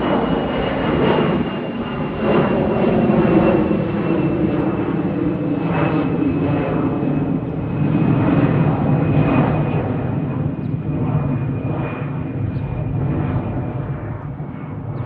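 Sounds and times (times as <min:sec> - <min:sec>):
airplane engines roaring: 0:00.0 - 0:15.0.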